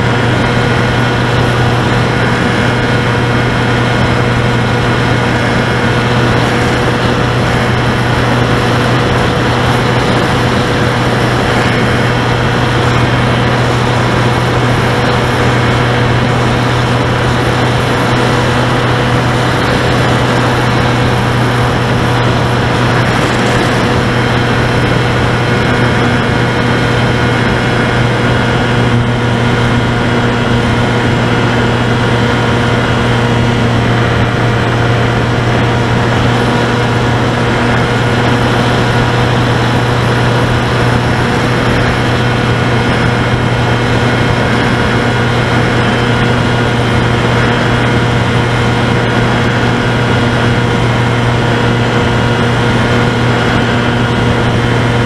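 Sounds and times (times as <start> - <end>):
electric motor and propeller hum: 0.0 - 55.0
wind rush: 0.0 - 55.0.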